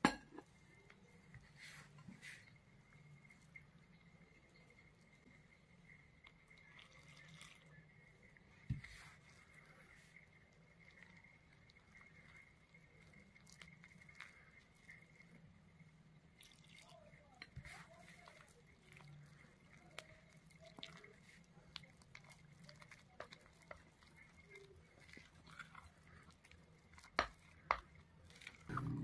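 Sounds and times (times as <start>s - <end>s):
batter stirred in a bowl: 0.0s - 29.0s.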